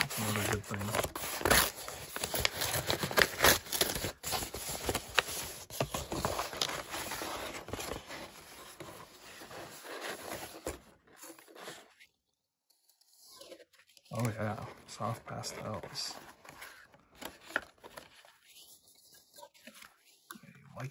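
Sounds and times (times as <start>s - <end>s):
packing paper rustling and crinkling: 0.0s - 12.1s, 12.8s - 20.3s.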